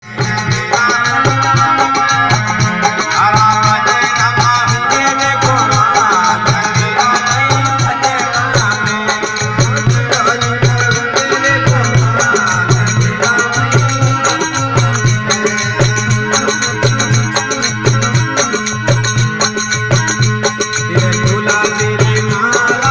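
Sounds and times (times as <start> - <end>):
drum beat: 0.0 - 22.9
rattle percussion: 0.0 - 22.9.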